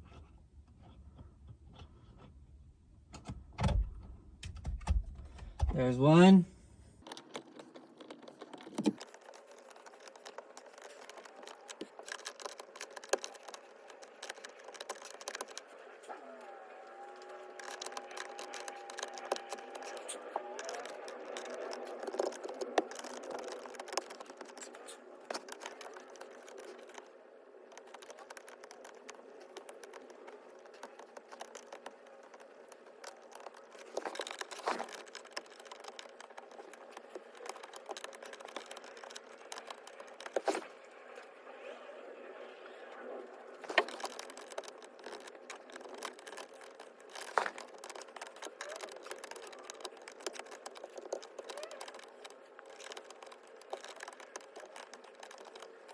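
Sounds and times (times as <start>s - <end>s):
screwdriver clicking and scraping: 7.0s - 16.2s, 16.8s - 40.8s, 43.6s - 55.9s.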